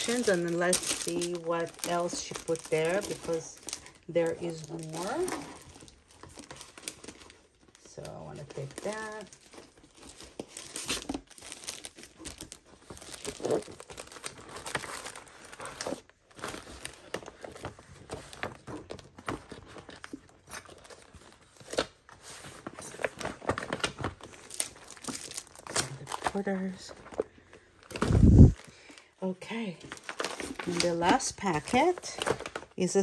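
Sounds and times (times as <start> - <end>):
packaging crinkling and tearing: 0.0 - 29.0, 29.8 - 33.0.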